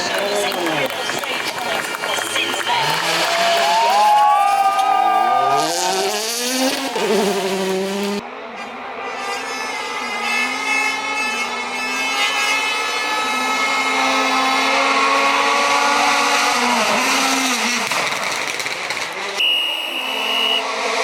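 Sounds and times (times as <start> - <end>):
rally car engine at high revs: 0.0 - 4.3, 5.3 - 21.0.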